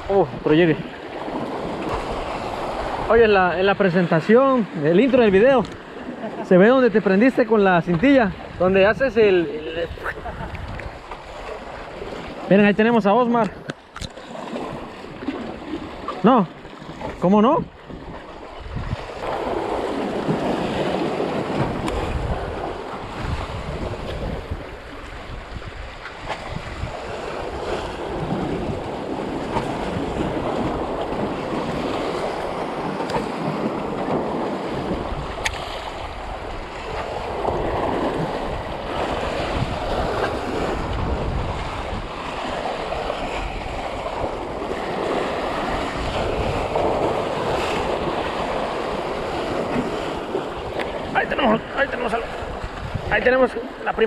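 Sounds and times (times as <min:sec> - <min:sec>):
wind buffeting microphone: 0:00.0 - 0:04.4, 0:07.4 - 0:54.0
sea waves: 0:00.0 - 0:54.0.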